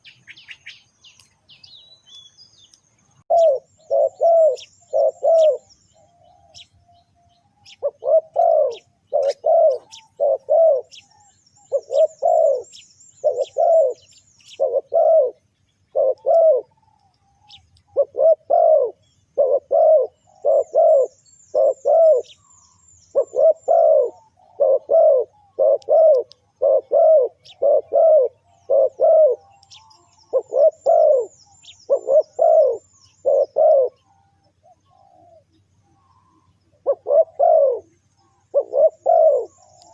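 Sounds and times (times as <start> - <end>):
small birds twittering: 0.0 - 39.9
dove cooing: 3.2 - 39.9.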